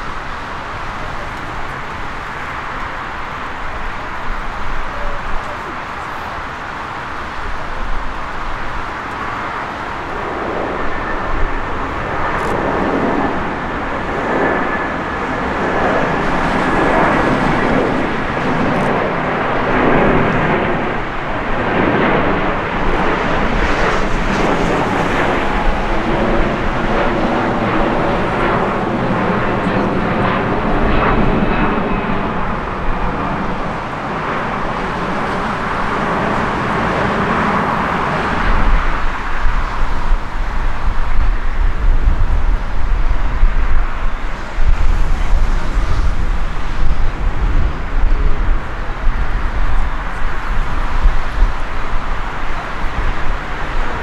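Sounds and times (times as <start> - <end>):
jet airliner passing: 0.0 - 54.0.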